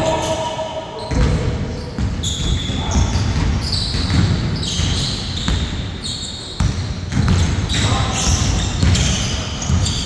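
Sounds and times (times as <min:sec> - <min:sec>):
players' voices in echoing hall: 0:00.0 - 0:10.0
sneaker squeaks: 0:00.0 - 0:10.0
basketball bouncing on court: 0:01.0 - 0:06.0, 0:06.6 - 0:10.0.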